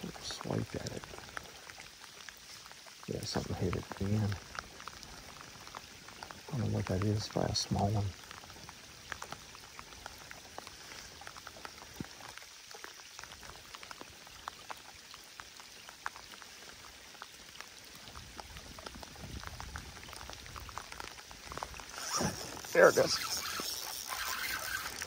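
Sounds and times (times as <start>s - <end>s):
rain falling on water: 0.0s - 25.0s.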